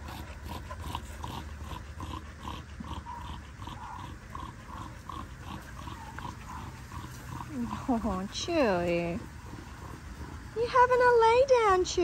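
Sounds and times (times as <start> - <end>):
dogs play-growling: 0.0 - 12.0.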